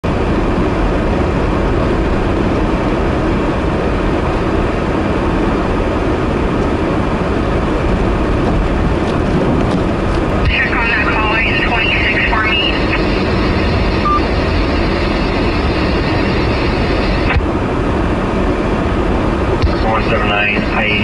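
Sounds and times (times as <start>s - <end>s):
low rumbling engine: 0.0s - 21.0s.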